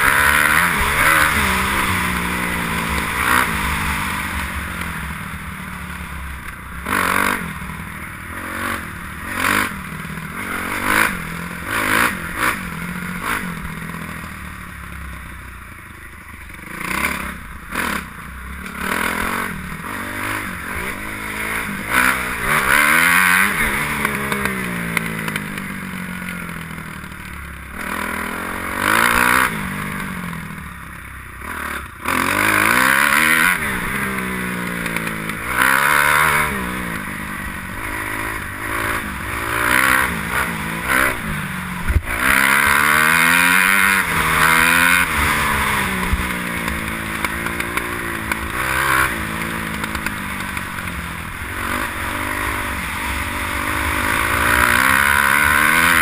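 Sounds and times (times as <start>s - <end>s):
motocross bike engine revving: 0.0s - 14.8s, 16.6s - 56.0s.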